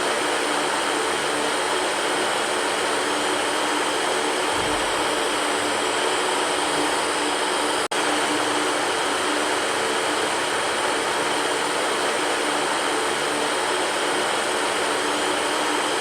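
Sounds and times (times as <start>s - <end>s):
electric fan whoosh: 0.0s - 16.0s.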